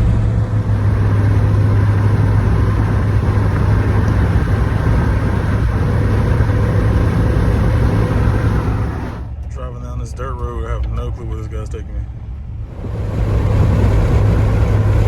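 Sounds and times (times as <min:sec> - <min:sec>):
road noise hiss: 0:00.0 - 0:09.7, 0:12.6 - 0:15.0
vehicle engine drone: 0:00.0 - 0:15.0.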